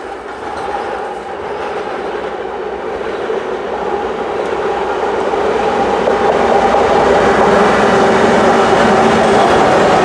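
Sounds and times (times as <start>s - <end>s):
rail noise: 0.0s - 10.0s.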